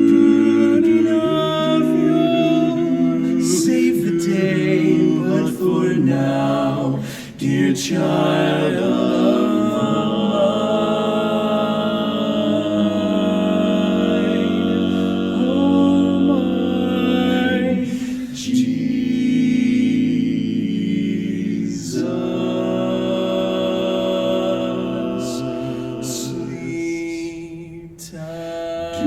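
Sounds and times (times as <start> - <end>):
male a cappella harmony singing: 0.0 - 29.0.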